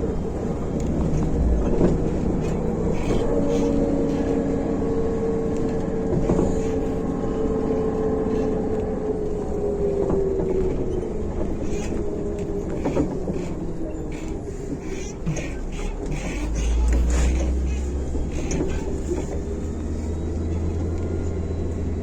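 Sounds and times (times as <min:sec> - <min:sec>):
bus drivetrain whine: 0:00.0 - 0:22.0
bus engine rumble: 0:00.0 - 0:22.0.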